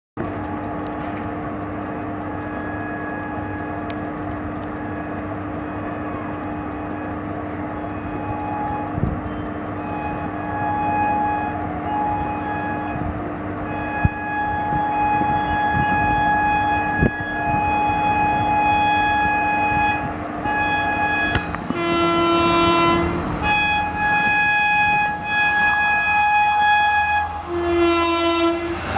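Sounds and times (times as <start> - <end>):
locomotive drone: 0.2 - 28.9
train horn blasts: 0.2 - 28.9.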